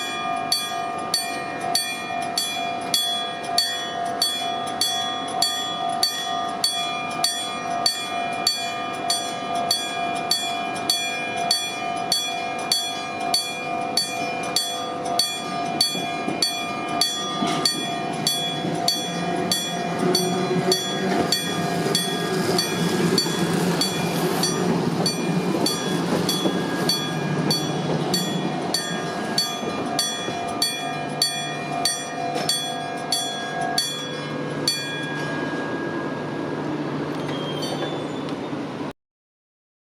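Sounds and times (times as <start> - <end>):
level-crossing warning bell: 0.0 - 38.9
train rumbling: 0.0 - 38.9.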